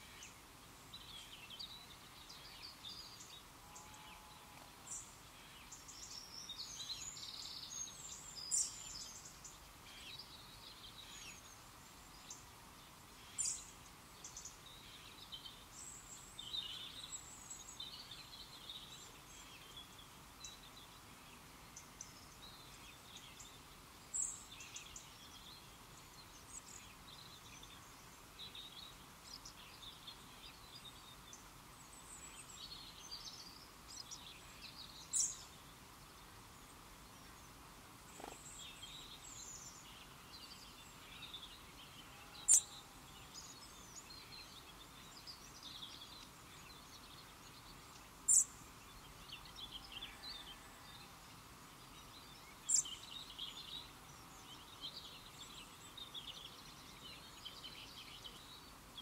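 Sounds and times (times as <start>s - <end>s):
faint steady hiss: 0.0s - 59.0s
small birds chirping: 0.0s - 59.0s.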